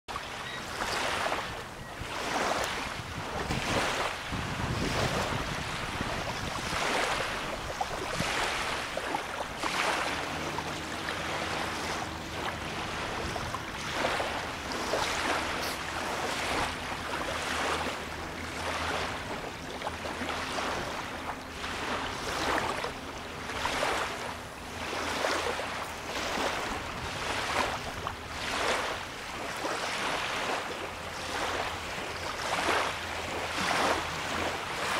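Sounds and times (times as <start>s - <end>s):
distant boat motor hum: 0.1s - 34.9s
waves lapping on sandy shore: 0.1s - 34.9s.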